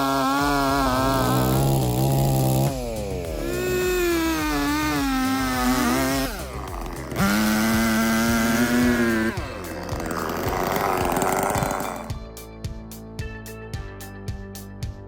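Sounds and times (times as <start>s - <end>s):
chainsaw revving: 0.0s - 12.2s
background music: 0.0s - 15.0s.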